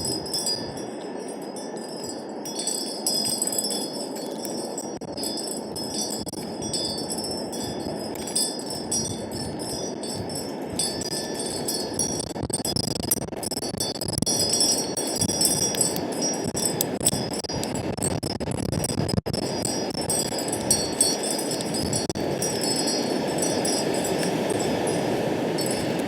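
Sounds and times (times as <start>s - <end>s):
wind chimes tinkling: 0.0s - 17.9s, 19.4s - 26.0s
wind on microphone: 0.0s - 26.0s.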